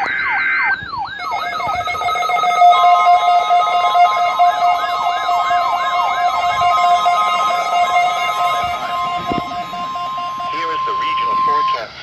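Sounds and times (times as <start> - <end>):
electronic siren sweep: 0.0 - 12.0
steady electronic tones: 0.0 - 12.0.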